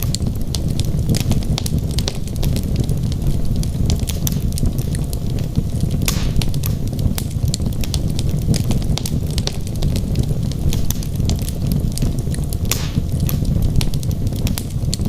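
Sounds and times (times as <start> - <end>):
logs crackling and popping: 0.0 - 15.0
low rumble of flame: 0.0 - 15.0.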